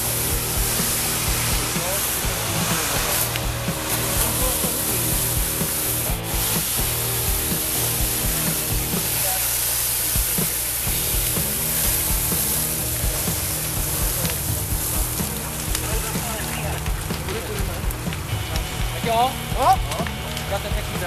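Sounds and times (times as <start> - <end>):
fire hissing and crackling: 0.0 - 21.0
low droning tone: 0.0 - 21.0.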